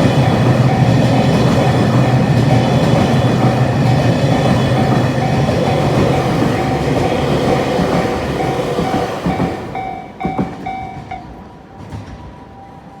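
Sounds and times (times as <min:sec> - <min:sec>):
level crossing alarm ringing: 0:00.0 - 0:11.4
train wheels clacking: 0:00.0 - 0:12.4.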